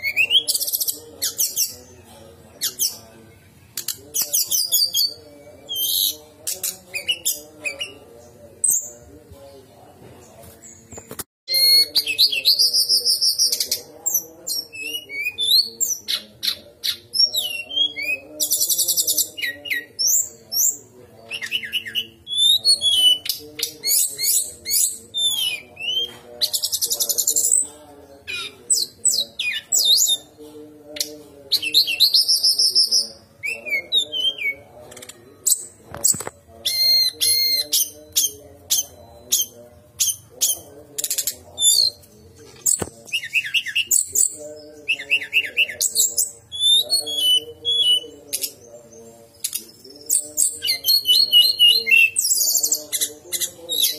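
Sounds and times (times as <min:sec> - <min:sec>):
bird singing: 0:00.0 - 0:53.9.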